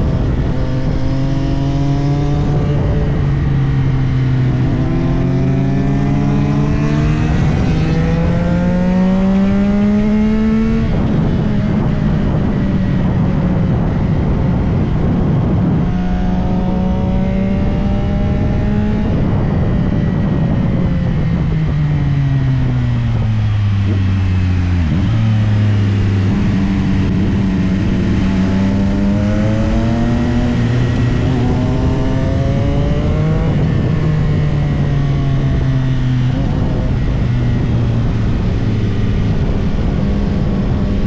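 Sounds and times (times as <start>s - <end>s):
motorcycle engine revving: 0.0s - 41.0s
wind rushing: 0.0s - 41.0s.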